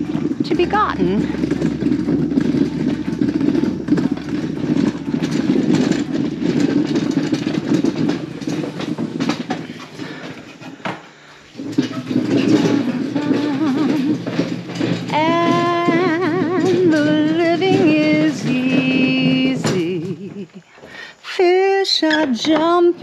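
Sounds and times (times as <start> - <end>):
footsteps on gravel: 0.0 - 20.9.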